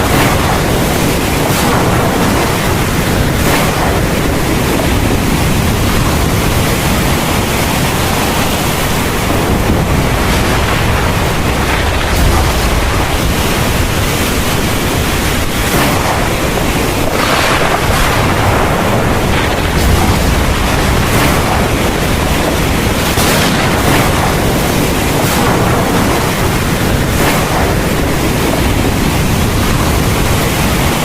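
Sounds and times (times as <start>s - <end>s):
heavy rain pouring: 0.0s - 31.0s
low rumble: 0.0s - 31.0s.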